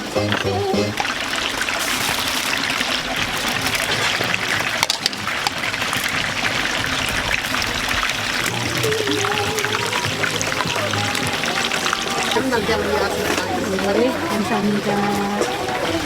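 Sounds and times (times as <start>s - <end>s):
chicken sizzling in hot oil: 0.0s - 13.5s
oil popping: 0.0s - 16.0s.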